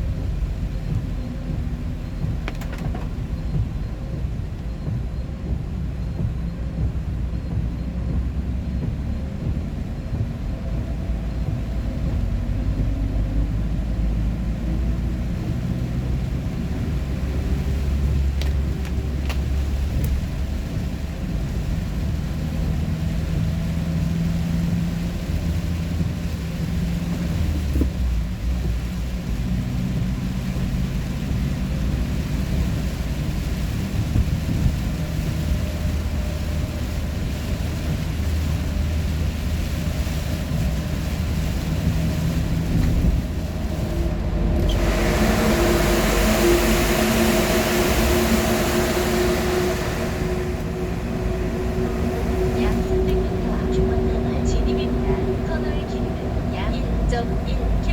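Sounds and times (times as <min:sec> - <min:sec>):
engine and road rumble: 0:00.0 - 0:57.9.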